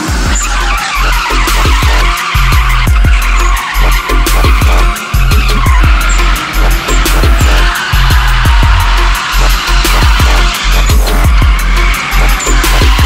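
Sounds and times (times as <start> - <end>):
bass-heavy music with quick beat: 0.0 - 13.0
car tyres squealing: 0.0 - 13.0.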